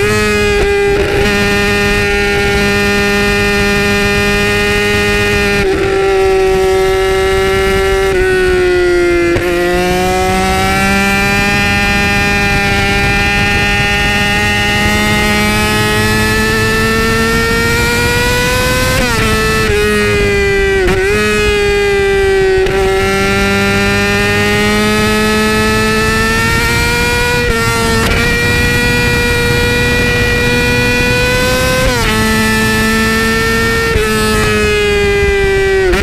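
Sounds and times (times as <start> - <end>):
motorcycle engine at high revs: 0.0 - 36.0.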